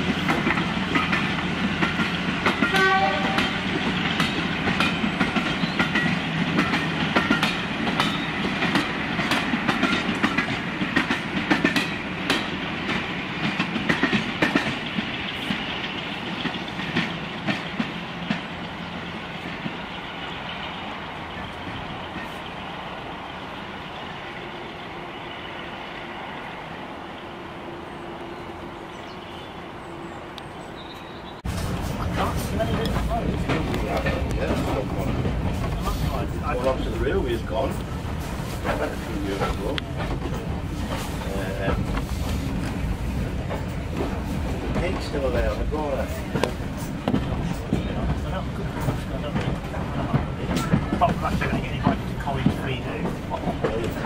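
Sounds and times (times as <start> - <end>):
train wheels clicking over rail joints: 0.0 - 22.6, 31.0 - 54.0
train rumble: 0.0 - 54.0.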